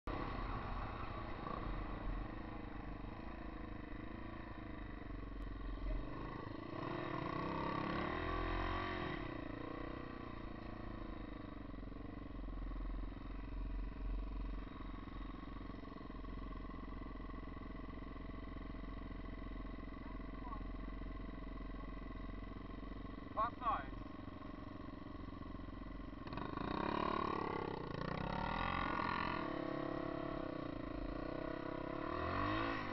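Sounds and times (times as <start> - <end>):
motorbike engine running: 0.1 - 32.9.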